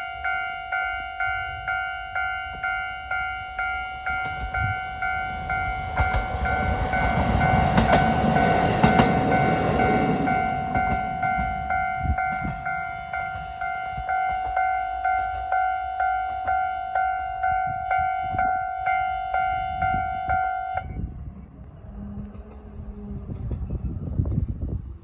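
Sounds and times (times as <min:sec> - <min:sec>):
level-crossing warning bell ringing: 0:00.0 - 0:21.0.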